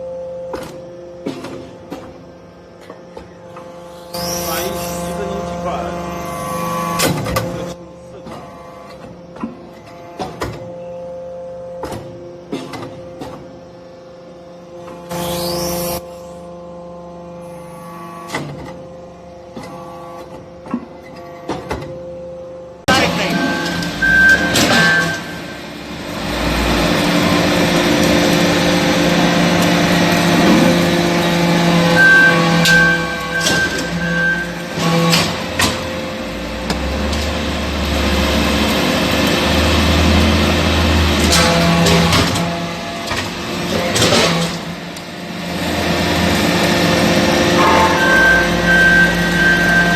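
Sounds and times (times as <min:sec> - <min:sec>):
harsh machine noise: 0:00.0 - 0:10.8, 0:14.6 - 0:20.3, 0:22.7 - 0:49.9
baler motor and pump hum: 0:00.0 - 0:49.9.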